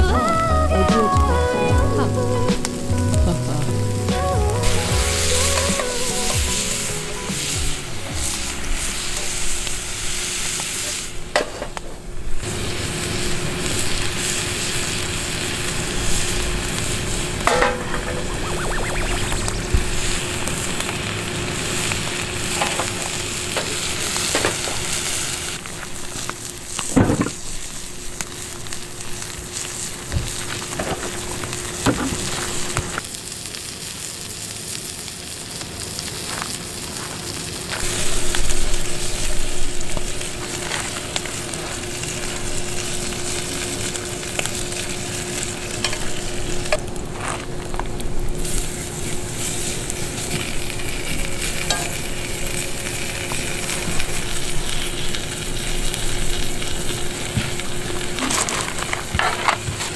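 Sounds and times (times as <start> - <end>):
meat sizzling in a frying pan: 2.6 - 11.4, 12.4 - 59.9.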